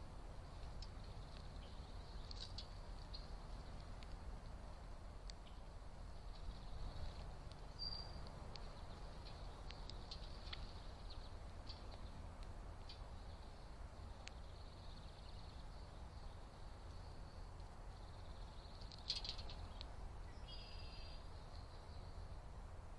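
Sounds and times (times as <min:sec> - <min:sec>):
small birds chirping: 0:00.0 - 0:22.5
steady low rumble: 0:00.0 - 0:22.9.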